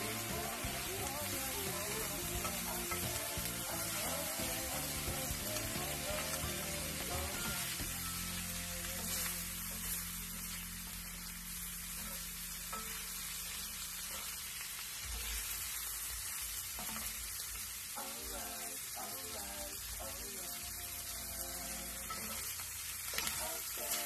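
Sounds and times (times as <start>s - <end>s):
meat sizzling in a skillet: 0.0s - 24.0s.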